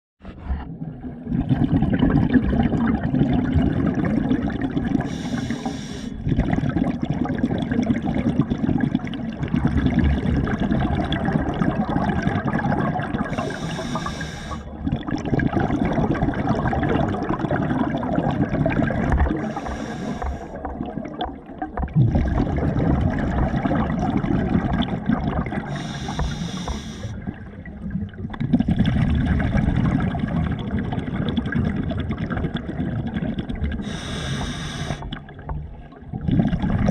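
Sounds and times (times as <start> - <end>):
water sloshing and gurgling: 0.2 - 36.9.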